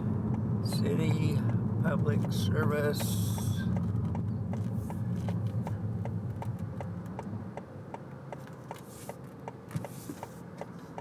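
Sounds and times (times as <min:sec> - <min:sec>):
engine and road rumble: 0:00.0 - 0:11.0
turn signal clicking: 0:00.1 - 0:11.0.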